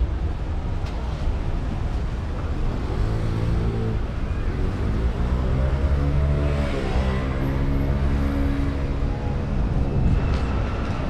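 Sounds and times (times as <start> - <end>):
low rumble of road noise: 0.0 - 11.0.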